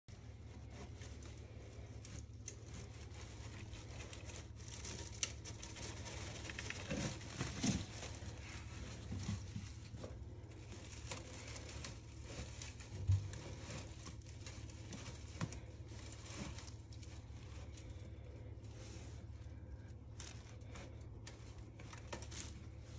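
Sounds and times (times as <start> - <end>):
plastic and foil crinkling: 0.1 - 22.9
steady low hum: 0.1 - 22.9.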